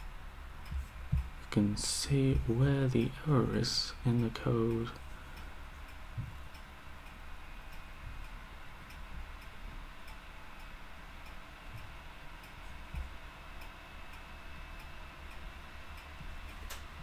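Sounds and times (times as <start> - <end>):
faint regular ticking: 0.0 - 17.0
low room hum: 0.0 - 17.0.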